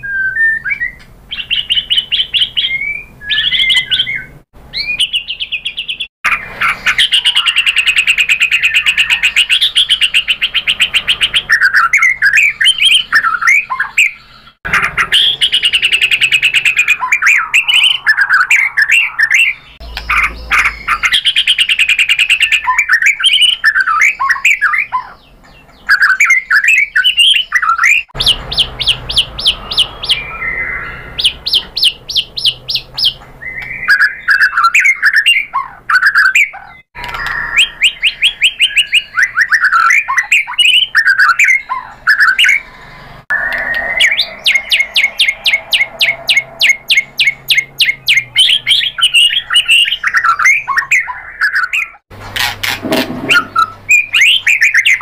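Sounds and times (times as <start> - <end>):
bird singing with whistles and trills: 0.0 - 52.0, 53.2 - 55.0.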